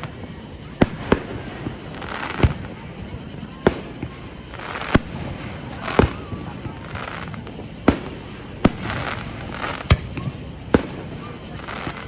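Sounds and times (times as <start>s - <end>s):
fireworks bangs: 0.0s - 12.0s
fireworks crackling and fizzing: 0.0s - 12.0s.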